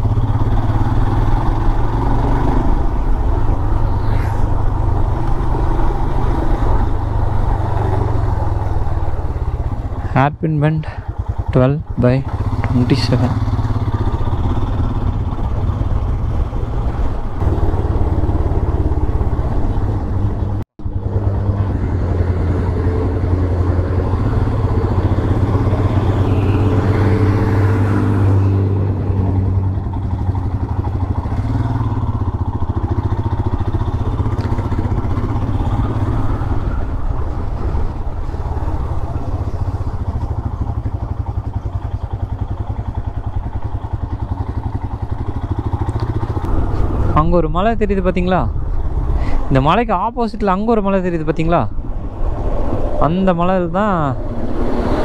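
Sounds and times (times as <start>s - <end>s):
motorcycle engine running: 0.0s - 49.8s.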